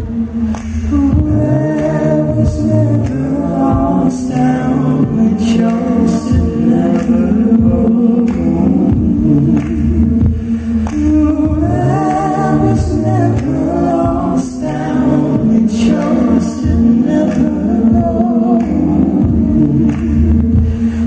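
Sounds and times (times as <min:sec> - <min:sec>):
choir vocal harmonies: 0:00.0 - 0:21.0
man singing: 0:00.0 - 0:21.0.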